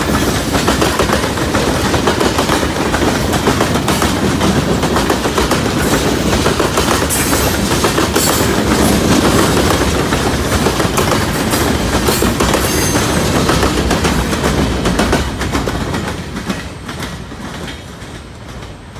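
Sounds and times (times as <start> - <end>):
freight train rumble: 0.0 - 18.9
train wheels clacking on rail joints: 0.0 - 18.9.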